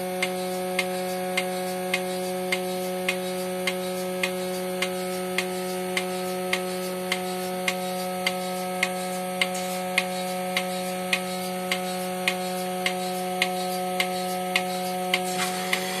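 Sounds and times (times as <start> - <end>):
vacuum pump motor hum: 0.0 - 16.0
pulsator clicking: 0.2 - 16.0.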